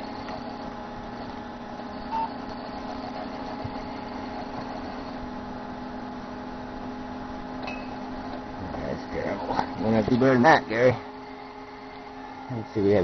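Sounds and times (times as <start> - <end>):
computer fan rattling: 0.0 - 13.0.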